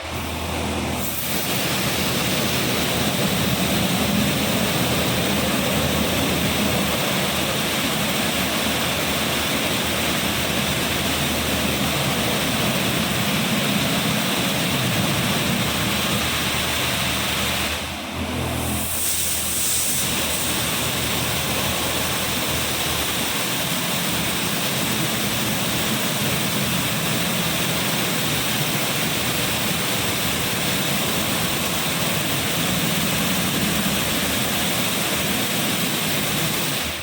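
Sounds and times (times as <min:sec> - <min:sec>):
high-pressure water jets spraying: 0:00.0 - 0:37.0.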